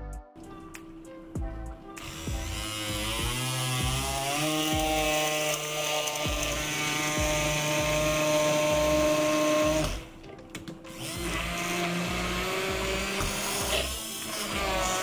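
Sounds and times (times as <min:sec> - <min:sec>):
hand blender motor whine: 0:01.9 - 0:10.2, 0:10.9 - 0:15.0.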